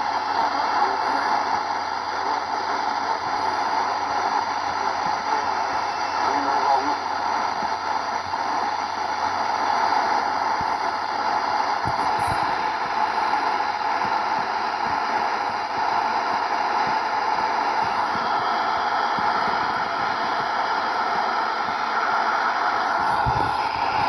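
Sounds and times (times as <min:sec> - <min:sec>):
faint radio crackles: 0:00.0 - 0:24.0
radio static hiss: 0:00.0 - 0:24.0.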